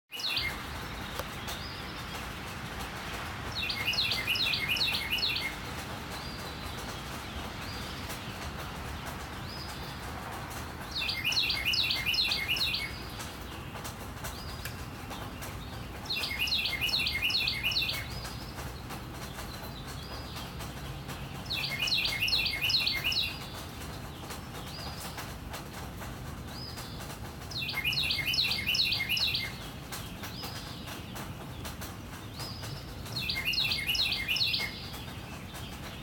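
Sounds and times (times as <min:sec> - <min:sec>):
rain hissing: 0:00.1 - 0:36.0.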